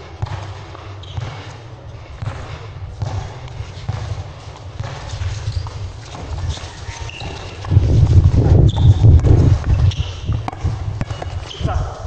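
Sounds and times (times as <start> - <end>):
basketball bouncing on concrete: 0.0 - 11.9.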